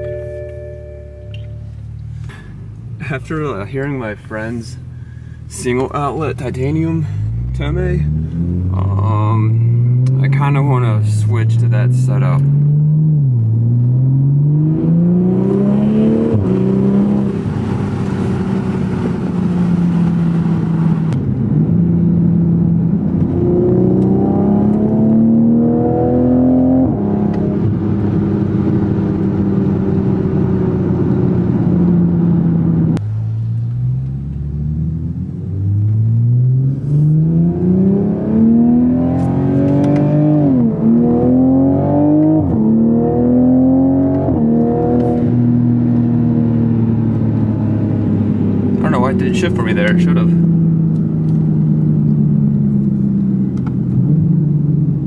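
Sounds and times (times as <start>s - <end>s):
car engine accelerating through gears: 5.5s - 55.0s.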